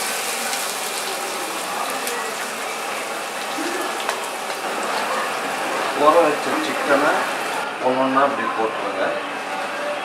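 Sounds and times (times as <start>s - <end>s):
onions sizzling in oil: 0.0s - 8.2s.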